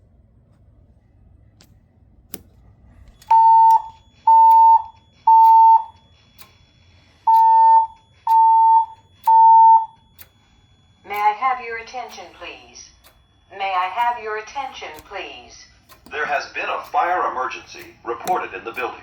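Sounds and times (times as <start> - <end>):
fire alarm evacuation beeps: 2.9 - 19.0.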